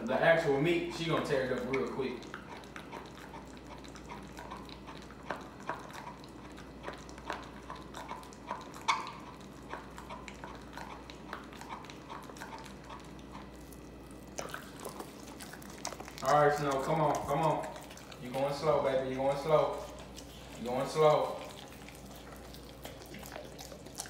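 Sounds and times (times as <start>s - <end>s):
dog chewing wet smacks: 0.1s - 24.0s.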